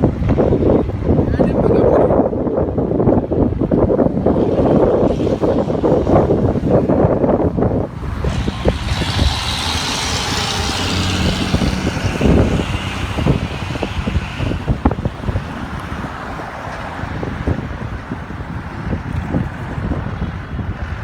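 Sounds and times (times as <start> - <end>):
traffic passing on highway: 0.0 - 21.0
wind rumble on microphone: 0.0 - 21.0.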